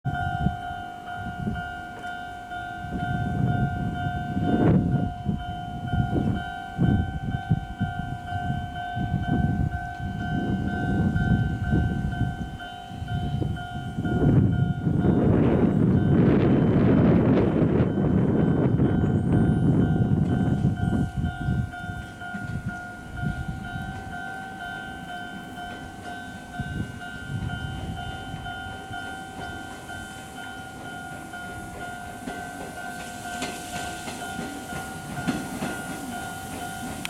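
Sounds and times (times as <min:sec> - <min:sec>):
electric train approaching: 0:00.1 - 0:37.0
level-crossing alarm ringing: 0:00.1 - 0:37.0.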